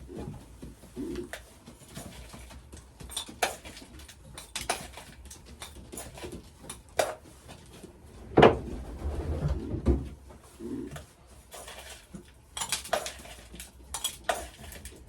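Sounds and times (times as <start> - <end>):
grain and feeders clinking: 0.0 - 15.0.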